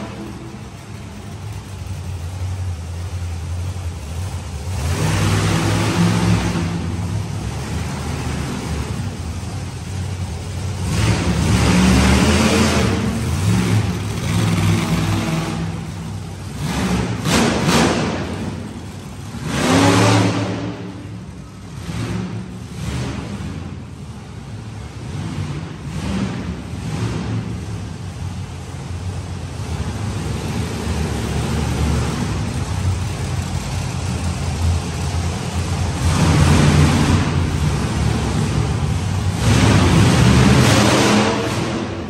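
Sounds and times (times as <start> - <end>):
racing engines revving: 0.0 - 42.0.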